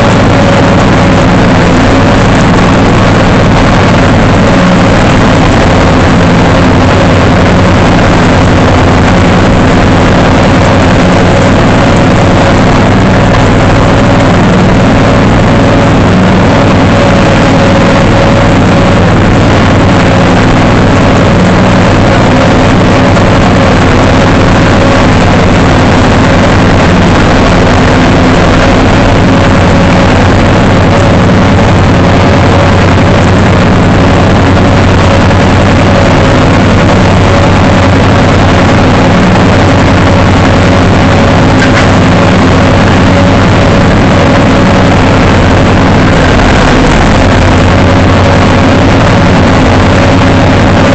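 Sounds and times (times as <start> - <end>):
mower engine running: 0.0 - 50.9
steady whine: 0.0 - 50.9.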